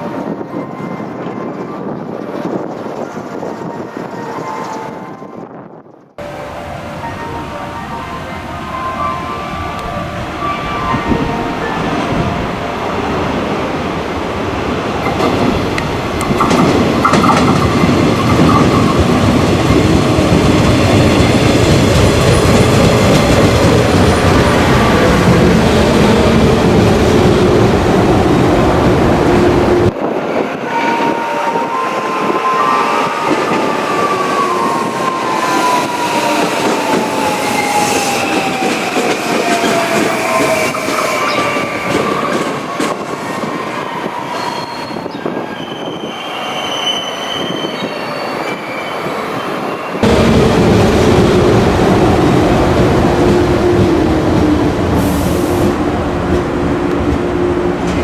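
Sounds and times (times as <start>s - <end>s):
train rumble and wheel noise: 0.0s - 58.0s.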